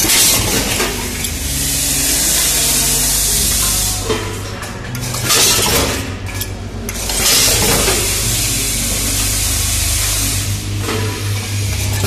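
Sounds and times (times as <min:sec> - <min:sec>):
machine hiss: 0:00.0 - 0:06.2, 0:06.9 - 0:12.0
machine low hum: 0:00.0 - 0:12.0.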